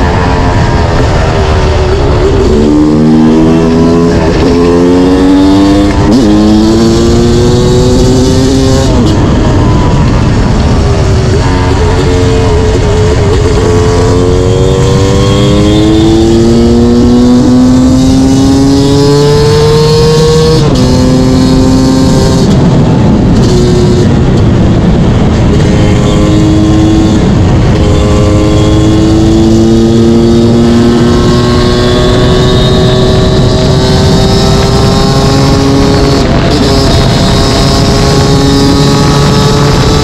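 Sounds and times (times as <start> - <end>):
two-stroke engine accelerating: 0.0 - 40.0.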